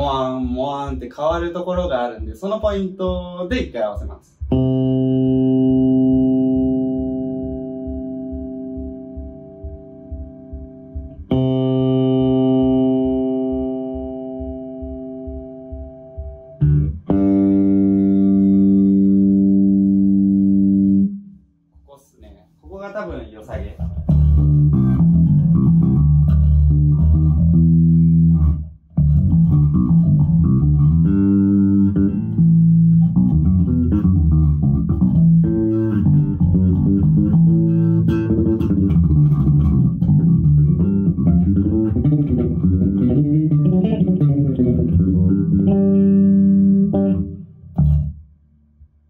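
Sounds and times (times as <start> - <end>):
electric bass plucked notes: 0.0 - 21.5, 23.7 - 49.0.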